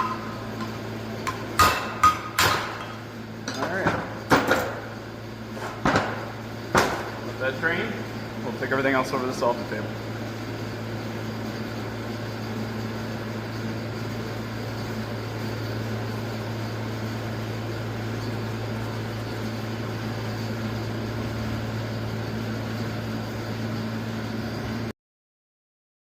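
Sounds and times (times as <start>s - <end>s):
electric pump hum: 0.0s - 24.9s.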